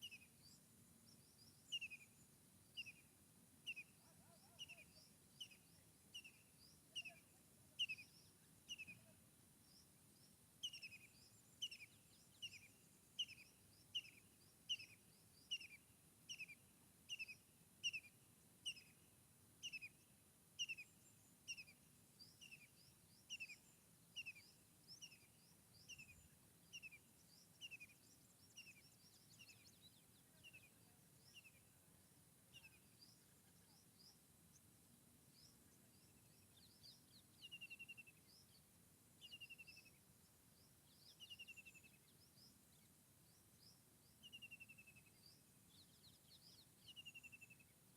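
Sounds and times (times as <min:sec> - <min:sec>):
bird chirping: 0:00.0 - 0:19.0, 0:19.6 - 0:20.0, 0:20.6 - 0:34.7, 0:35.3 - 0:47.7
faint background hiss: 0:00.0 - 0:47.9.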